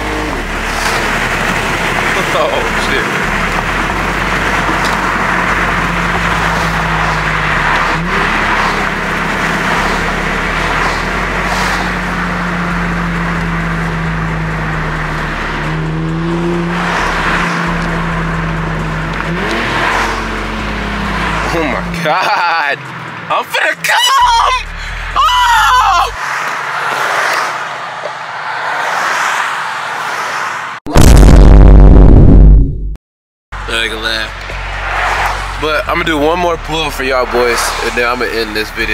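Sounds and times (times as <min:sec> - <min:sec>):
car engine running: 0:00.0 - 0:26.2, 0:33.5 - 0:38.9
road and tyre noise: 0:00.0 - 0:30.9, 0:33.5 - 0:38.9.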